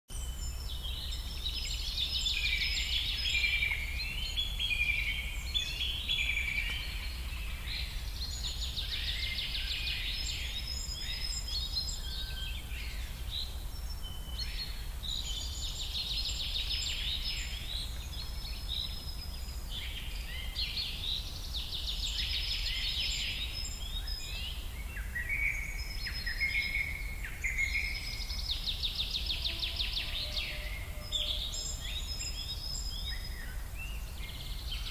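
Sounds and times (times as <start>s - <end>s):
birds chirping and trilling: 0.1s - 34.9s.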